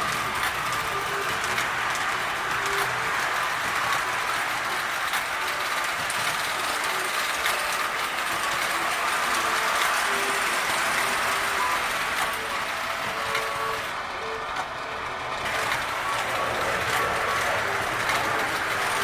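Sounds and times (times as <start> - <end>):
toy train motors whirring: 0.0 - 19.0
wheels clattering over rail joints: 0.0 - 19.0.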